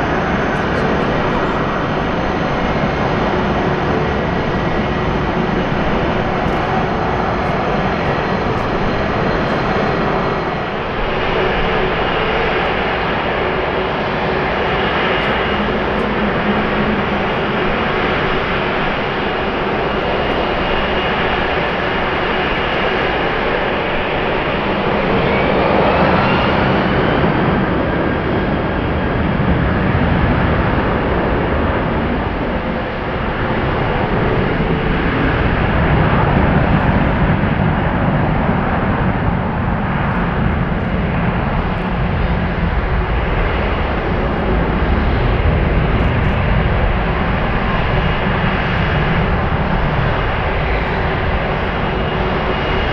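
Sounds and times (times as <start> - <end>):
jet engines roaring at takeoff: 0.0 - 52.9.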